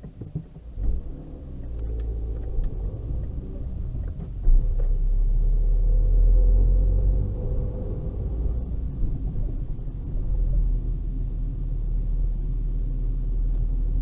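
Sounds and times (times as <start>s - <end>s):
car engine and cabin rumble: 0.0s - 14.0s.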